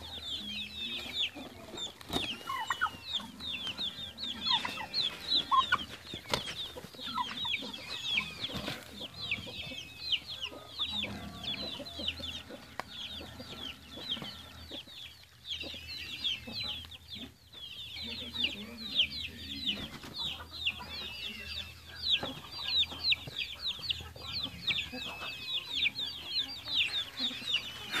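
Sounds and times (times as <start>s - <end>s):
chickens peeping and clucking: 0.0s - 28.0s.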